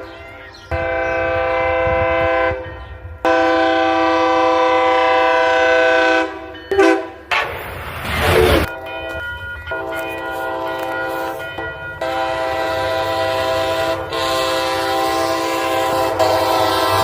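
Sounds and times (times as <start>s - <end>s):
moving train rumble: 0.0s - 17.0s
locomotive air horn chord: 0.7s - 7.8s, 9.7s - 17.0s.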